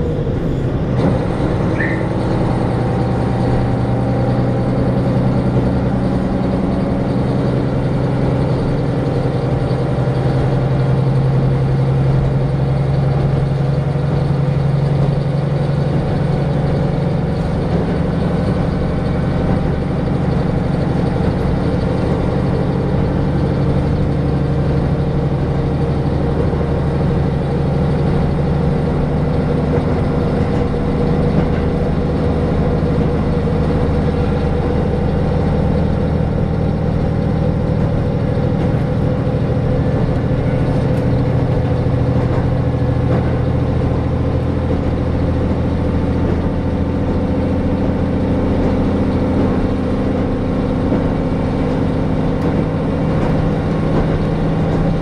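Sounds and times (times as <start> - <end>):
railcar engine drone: 0.0 - 55.0
train rolling noise: 0.0 - 55.0.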